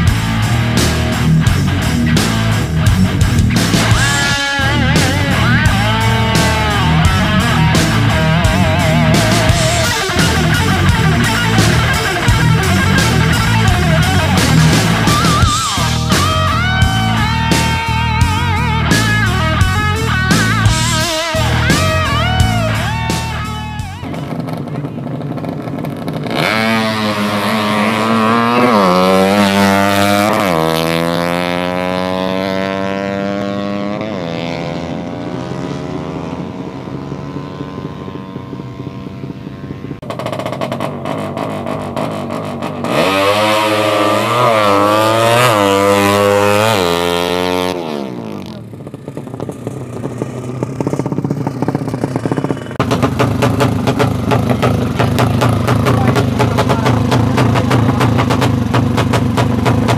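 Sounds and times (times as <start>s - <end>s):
motorcycle engine running rough: 0.0s - 59.9s
motorcycles revving and pulling away: 0.0s - 59.9s.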